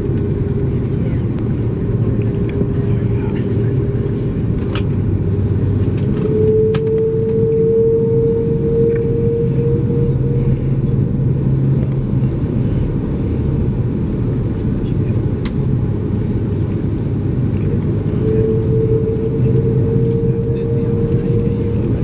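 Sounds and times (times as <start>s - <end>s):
jet airliner rumble: 0.0s - 22.0s
steady hum: 0.0s - 22.0s.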